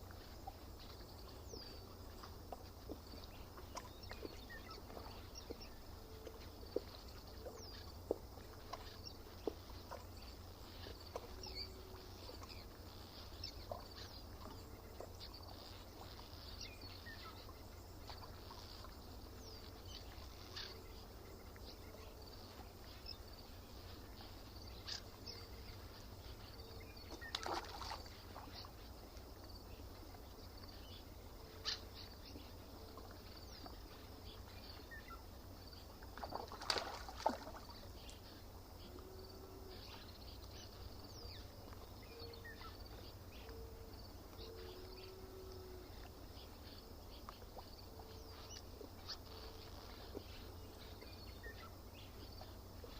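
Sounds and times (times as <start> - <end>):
low background noise: 0.0 - 52.9.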